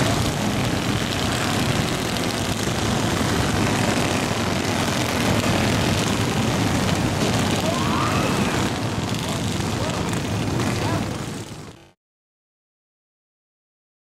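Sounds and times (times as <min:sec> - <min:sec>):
go-kart engines buzzing: 0:00.0 - 0:12.0.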